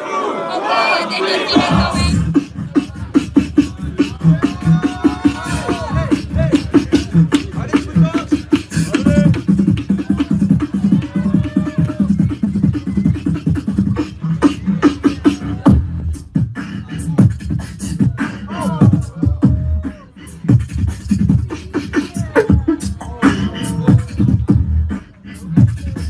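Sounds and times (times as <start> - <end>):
beatboxing through microphone: 1.1 - 26.0.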